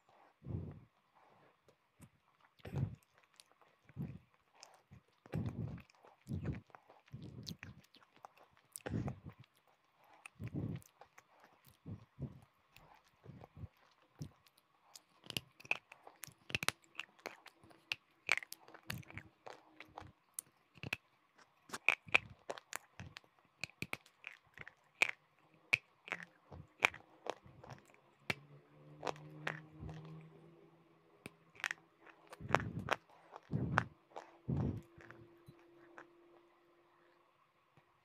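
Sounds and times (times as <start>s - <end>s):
crunchy food being chewed: 0.0s - 30.4s, 31.2s - 37.2s.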